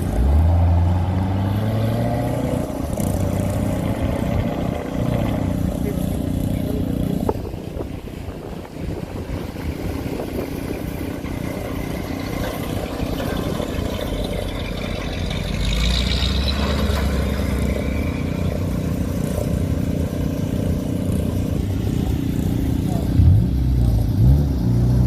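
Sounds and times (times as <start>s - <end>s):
car engines rumbling: 0.0s - 25.0s.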